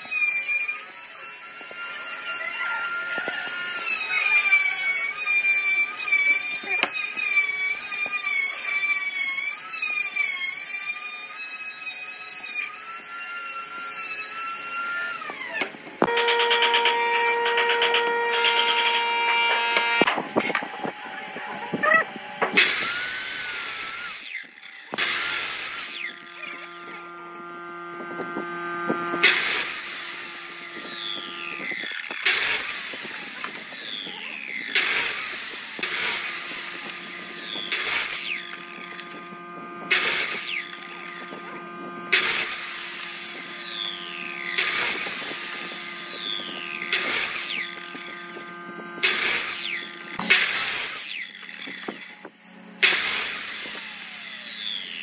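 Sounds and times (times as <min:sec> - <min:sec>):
miter saw cutting wood: 0:00.0 - 0:55.0
saw motor humming: 0:00.0 - 0:55.0.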